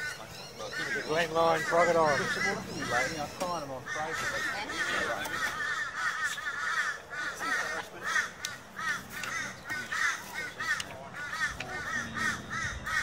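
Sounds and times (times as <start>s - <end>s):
birds calling harshly: 0.0s - 13.0s.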